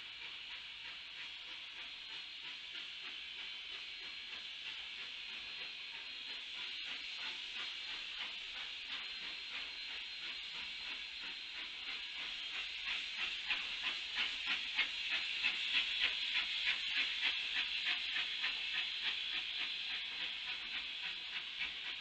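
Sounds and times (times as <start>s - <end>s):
steady steam hiss: 0.0s - 22.0s
steam locomotive chuffing: 0.0s - 22.0s.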